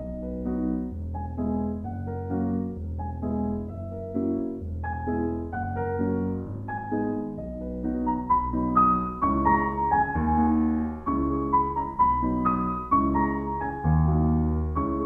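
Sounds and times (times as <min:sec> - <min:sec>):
piano instrumental music: 0:00.0 - 0:15.0.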